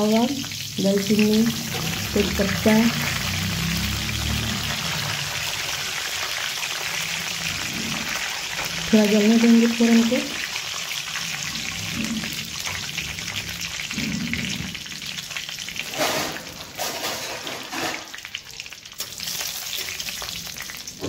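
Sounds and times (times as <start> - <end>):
spices sizzling in hot oil: 0.0 - 21.0.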